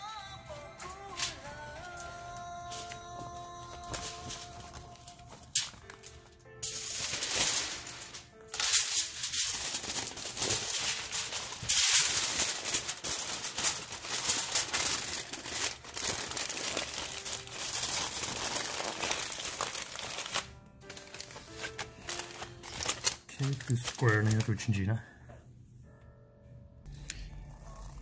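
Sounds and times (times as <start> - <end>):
faint background music: 0.0 - 28.0
aluminium foil crinkling: 0.8 - 25.0.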